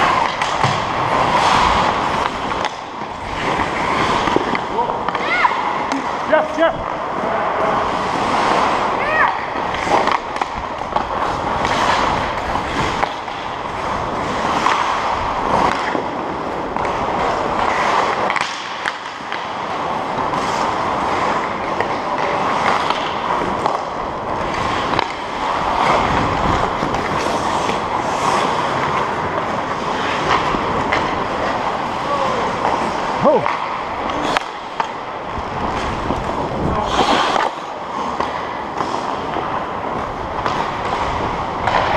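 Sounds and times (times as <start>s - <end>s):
skate blades scraping on ice: 0.0s - 41.9s.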